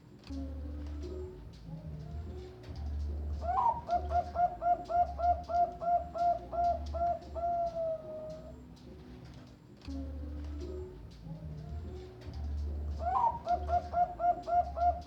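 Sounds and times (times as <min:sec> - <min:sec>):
dove cooing: 0:00.4 - 0:11.0, 0:11.6 - 0:15.0.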